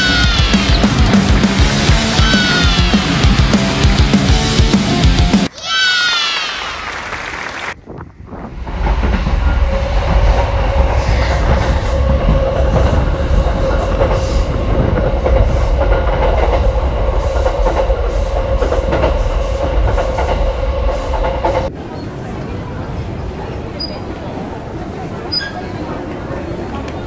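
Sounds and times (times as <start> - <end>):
train rumble: 0.0 - 5.5, 6.7 - 27.0.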